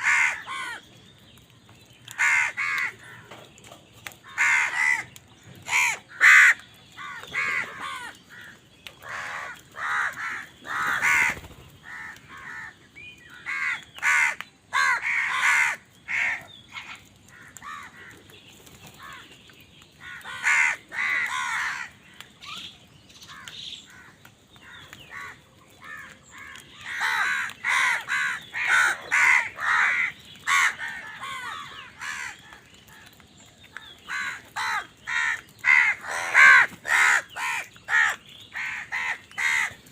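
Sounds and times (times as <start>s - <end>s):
crows cawing: 0.0s - 0.9s, 2.0s - 3.5s, 4.2s - 18.3s, 19.0s - 19.3s, 20.0s - 39.9s.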